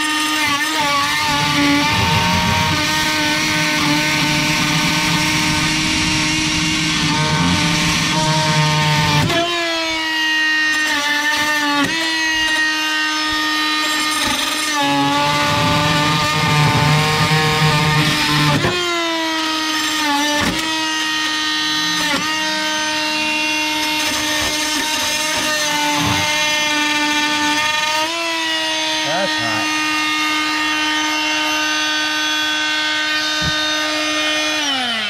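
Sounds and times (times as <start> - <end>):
oscillating multi-tool buzzing: 0.0 - 35.0.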